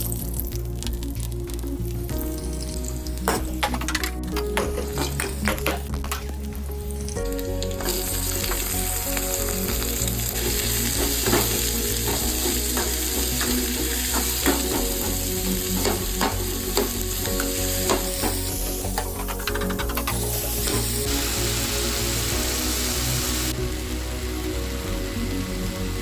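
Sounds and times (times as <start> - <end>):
meat sizzling in a pan: 0.0 - 3.7, 4.5 - 26.0.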